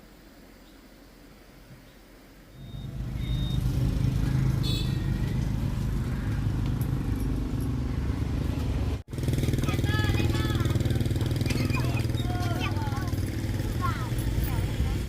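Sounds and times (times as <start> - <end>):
vehicle engine running: 2.6 - 15.0.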